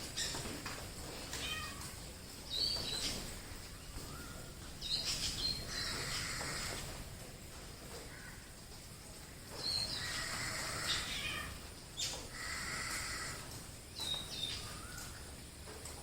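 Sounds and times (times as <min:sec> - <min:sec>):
wild birds calling: 0:01.3 - 0:07.2, 0:08.0 - 0:15.6.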